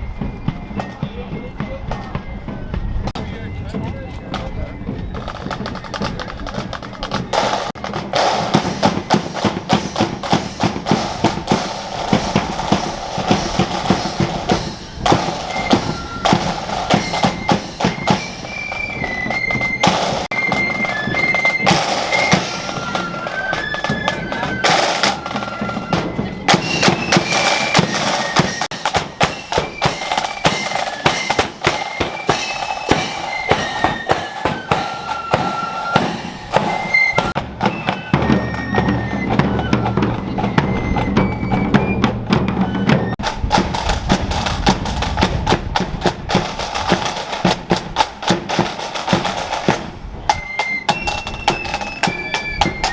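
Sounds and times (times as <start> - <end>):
high flute melody: 0.0 - 45.0, 46.4 - 52.9
rapid snare drumming: 5.2 - 40.7, 41.6 - 52.9.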